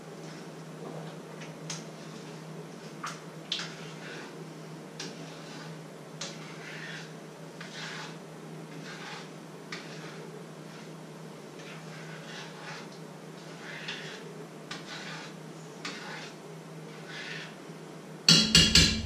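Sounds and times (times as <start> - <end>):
utensil scraping in a pan: 0.0 - 19.0.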